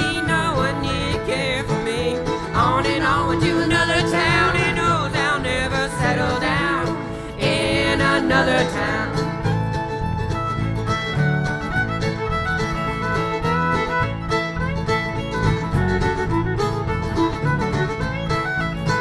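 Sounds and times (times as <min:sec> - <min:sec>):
acoustic bluegrass band playing: 0:00.0 - 0:19.0.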